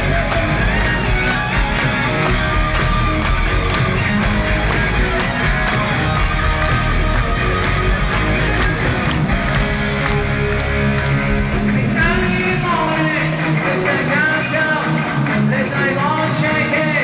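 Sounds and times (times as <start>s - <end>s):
hard rock band playing live: 0.0s - 17.0s.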